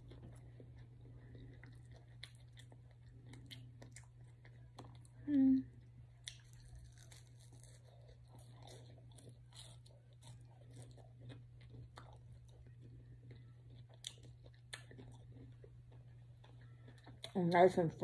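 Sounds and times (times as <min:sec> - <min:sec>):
faint chewing and biting: 0:00.0 - 0:17.8
steady low hum: 0:00.0 - 0:18.0.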